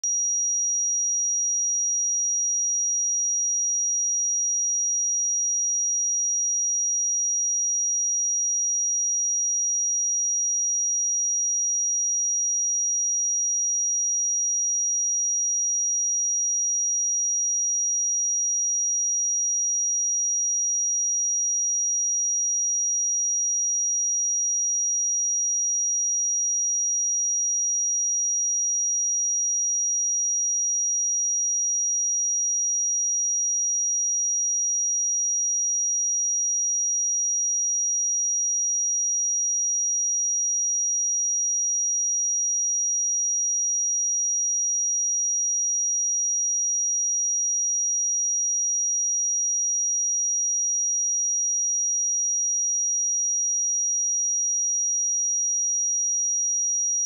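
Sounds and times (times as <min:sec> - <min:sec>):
high-pitched sine-wave test tone: 0:00.0 - 0:57.0.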